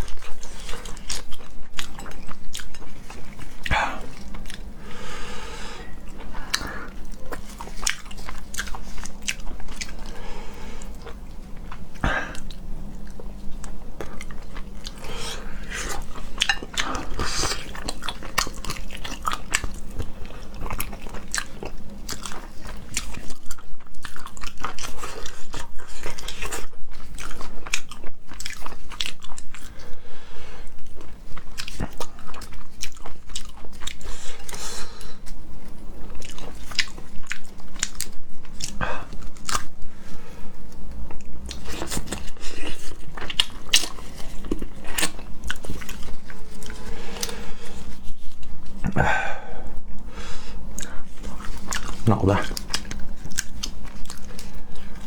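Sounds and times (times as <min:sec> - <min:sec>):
chewing and crunching shrimp: 0:00.0 - 0:55.0.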